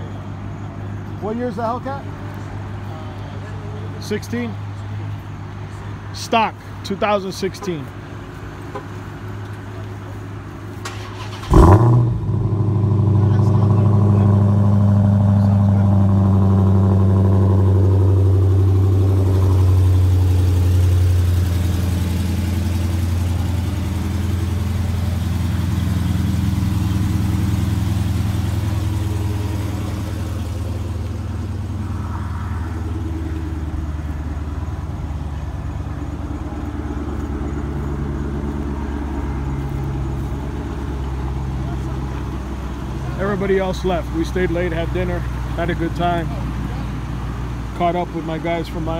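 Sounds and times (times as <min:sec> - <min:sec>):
car engine idling burble: 0:08.6 - 0:48.9.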